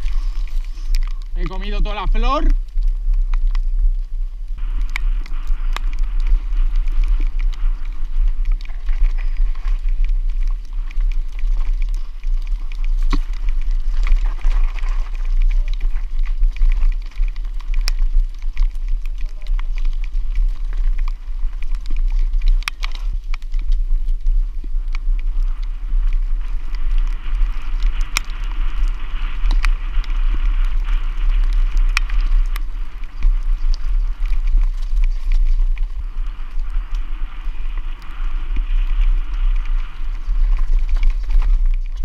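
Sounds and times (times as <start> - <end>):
bike clicks and rattles: 0.0 - 42.0
tyre noise on dirt: 0.0 - 42.0
wind rumbling on microphone: 0.0 - 42.0.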